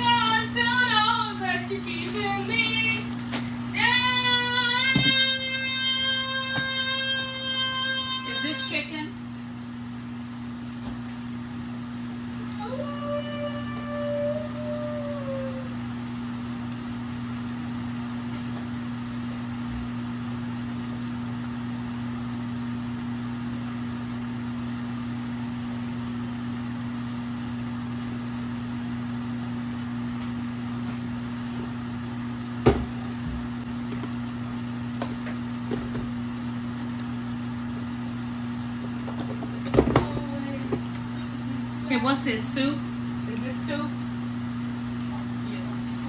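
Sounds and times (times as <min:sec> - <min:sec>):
kitchen appliance humming: 0:00.0 - 0:46.0.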